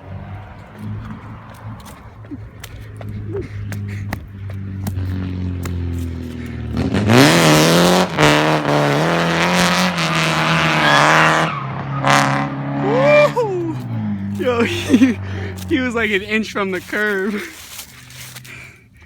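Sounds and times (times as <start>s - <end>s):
car engine revving: 0.0s - 18.5s
tires squealing: 0.0s - 18.5s.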